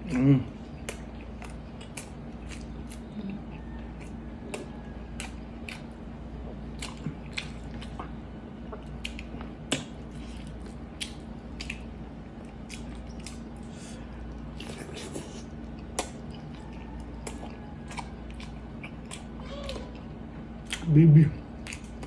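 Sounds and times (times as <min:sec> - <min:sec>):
person chewing with wet smacks: 0:00.0 - 0:22.0.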